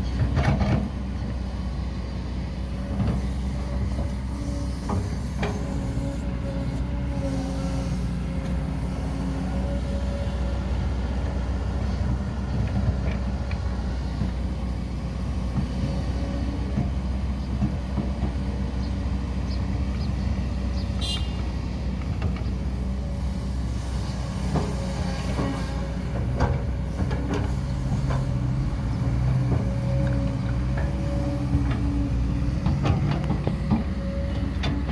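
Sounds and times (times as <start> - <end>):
earth-moving machinery engine drone: 0.0 - 34.9.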